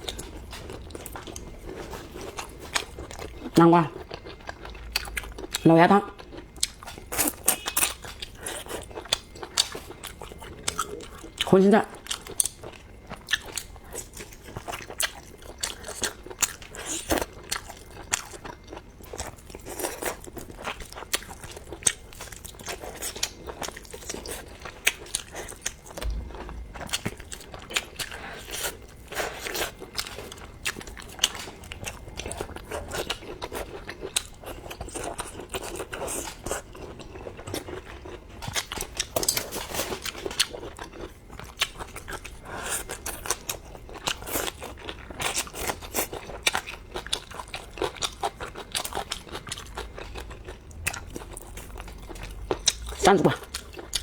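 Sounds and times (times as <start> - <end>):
person crunching and chewing food: 0.0 - 54.0.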